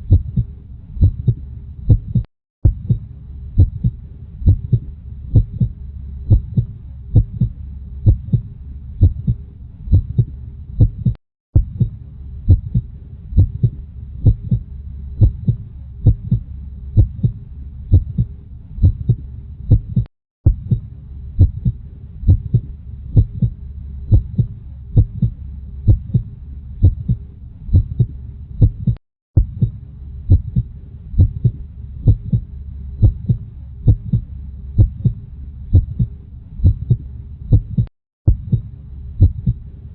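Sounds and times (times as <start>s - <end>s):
heartbeat thumps: 0.0s - 39.6s
low hum: 0.0s - 39.9s.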